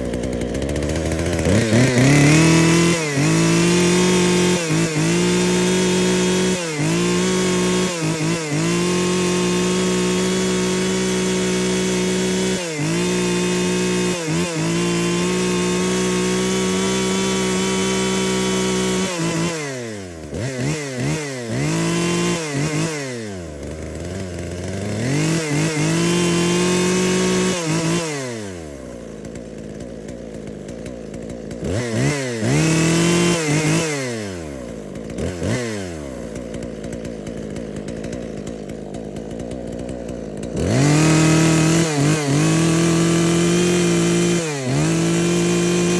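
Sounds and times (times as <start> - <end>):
chainsaw revving: 0.0 - 45.9.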